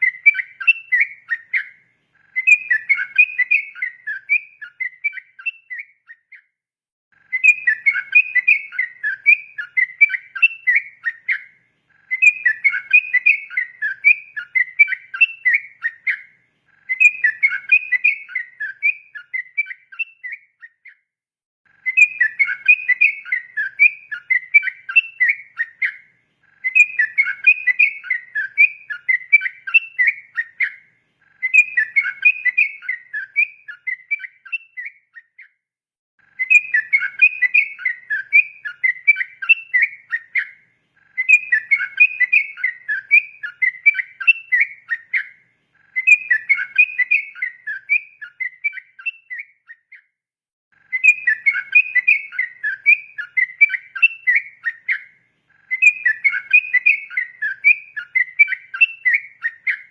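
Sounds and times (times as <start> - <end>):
bird singing bubbling whistled song: 0.0 - 6.6, 7.2 - 21.1, 21.7 - 35.6, 36.2 - 50.2, 50.8 - 59.9.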